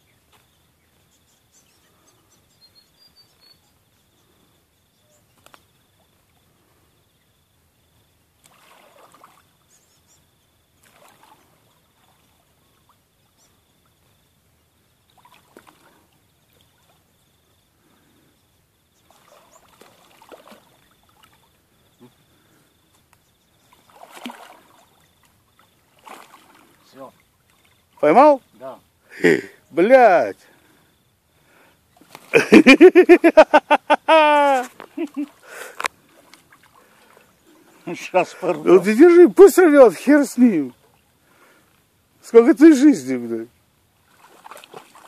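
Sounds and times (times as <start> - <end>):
faint water splashing: 4.2 - 45.0.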